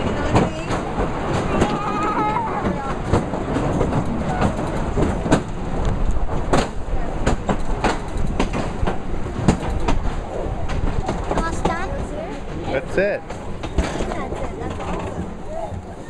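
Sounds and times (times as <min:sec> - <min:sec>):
incline railway car rumbling: 0:00.0 - 0:16.0
wheels clacking and knocking: 0:00.0 - 0:16.0.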